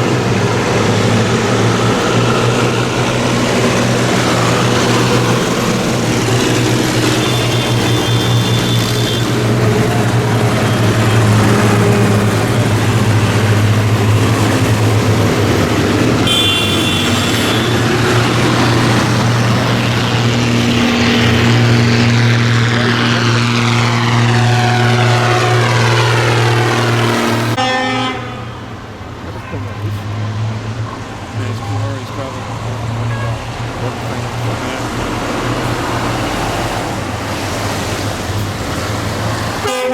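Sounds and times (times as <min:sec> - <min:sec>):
tractor engines droning: 0:00.0 - 0:39.9.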